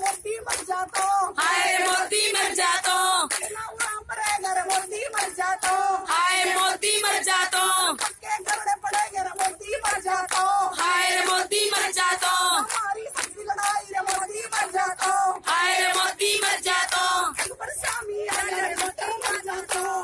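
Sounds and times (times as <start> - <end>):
women singing into microphone: 0.0 - 20.0.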